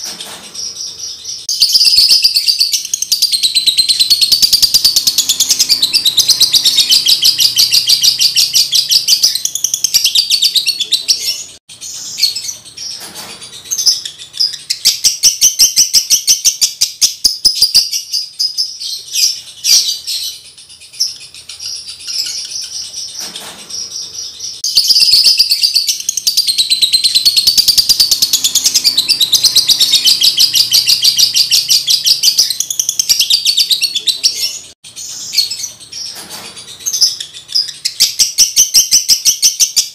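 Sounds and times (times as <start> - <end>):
lovebird chattering: 0.5 - 39.9.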